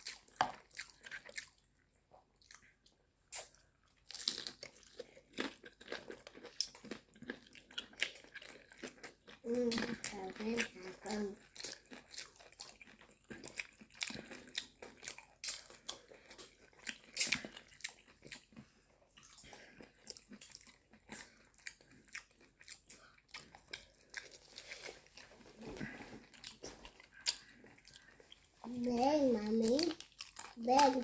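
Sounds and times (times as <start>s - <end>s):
person chewing crunchy food: 0.0s - 31.0s.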